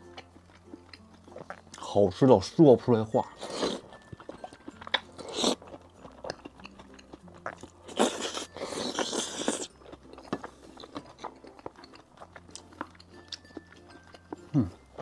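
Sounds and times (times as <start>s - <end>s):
close chewing with wet crunches: 0.0s - 2.0s, 3.3s - 15.0s.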